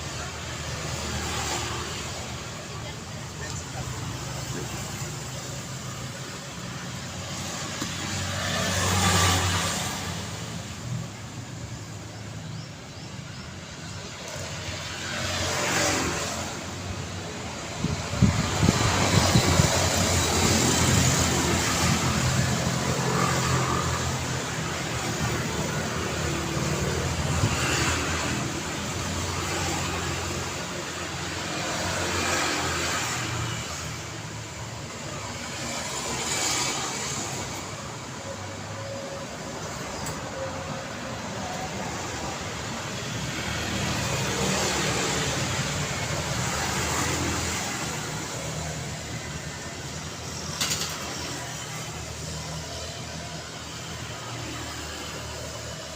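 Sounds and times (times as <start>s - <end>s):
cars passing: 0.0s - 55.9s.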